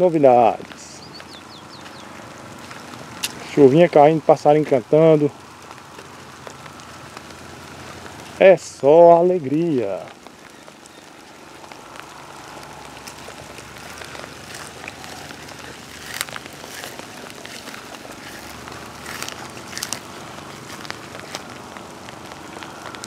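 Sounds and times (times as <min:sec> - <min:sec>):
light rain pattering on leaves: 0:00.0 - 0:23.0.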